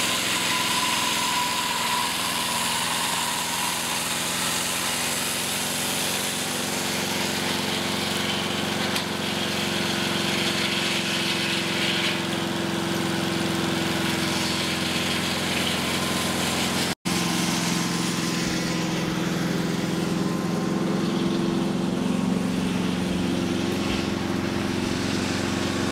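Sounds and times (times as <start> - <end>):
saw engine running: 0.0 - 25.9.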